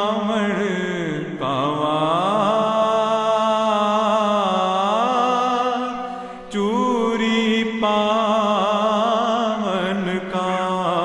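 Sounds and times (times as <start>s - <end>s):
person singing long wavering notes: 0.0s - 11.0s.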